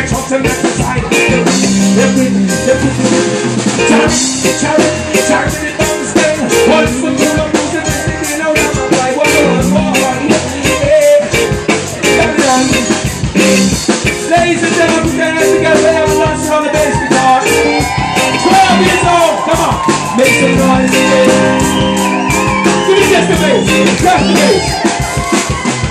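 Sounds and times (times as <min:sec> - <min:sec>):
person singing: 0:00.0 - 0:13.6, 0:14.3 - 0:25.9
reggae band playing: 0:00.0 - 0:25.9.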